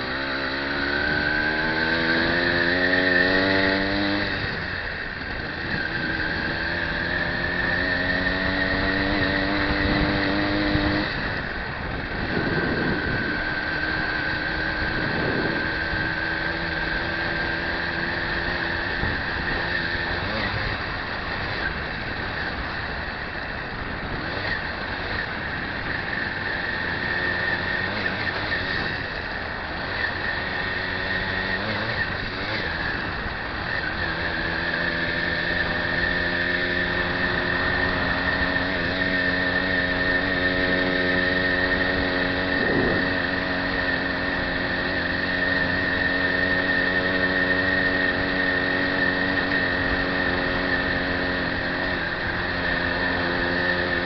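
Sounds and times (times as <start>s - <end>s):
road and wind noise: 0.0s - 54.0s
steady high whine: 0.0s - 54.0s.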